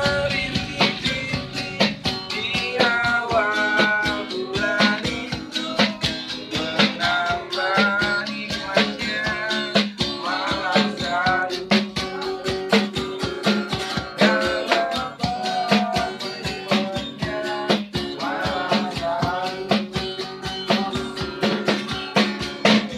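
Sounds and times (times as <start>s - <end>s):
acoustic guitar strumming: 0.0s - 22.9s
person singing: 0.0s - 22.9s.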